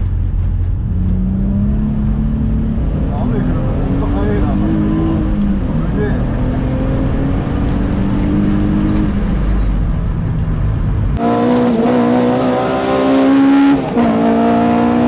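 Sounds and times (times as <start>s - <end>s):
car engine running hard: 0.0s - 15.0s
four-cylinder engine revving high: 0.8s - 9.7s, 11.1s - 15.0s.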